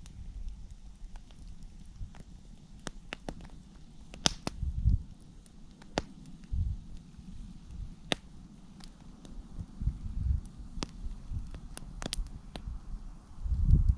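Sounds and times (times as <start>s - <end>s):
dry wood snapping and popping: 0.0s - 9.8s, 10.4s - 12.7s.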